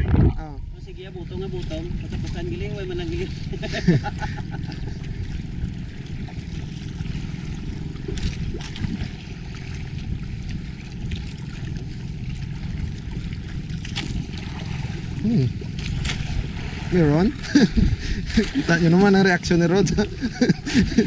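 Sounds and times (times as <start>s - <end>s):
low boat noise: 0.0s - 21.0s
water washing against hull: 0.0s - 21.0s.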